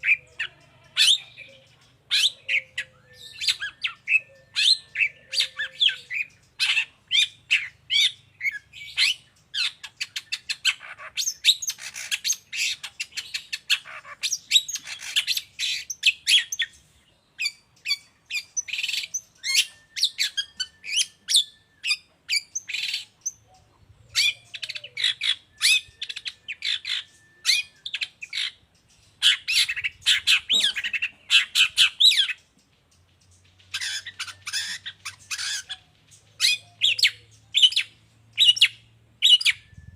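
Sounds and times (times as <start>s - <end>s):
bird singing chirps and calls: 0.0s - 39.9s.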